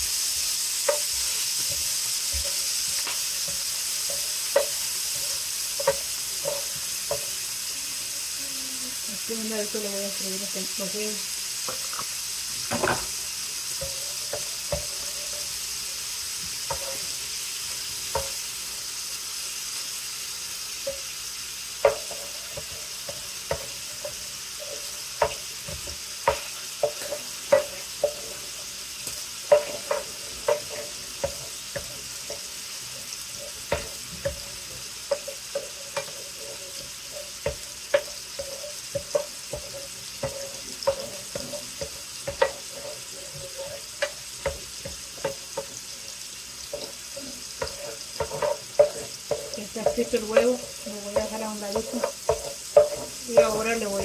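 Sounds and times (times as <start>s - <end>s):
egg sizzling in a pan: 0.0s - 54.0s
spoon scraping and tapping pan: 0.4s - 7.4s, 11.6s - 13.2s, 13.8s - 15.6s, 16.4s - 18.5s, 20.8s - 21.2s, 21.8s - 54.0s.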